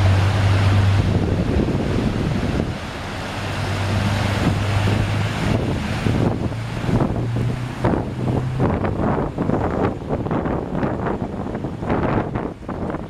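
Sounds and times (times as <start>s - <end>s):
low engine hum: 0.0s - 13.0s
water rushing and splashing: 0.0s - 13.0s
wind buffeting microphone: 0.0s - 13.0s.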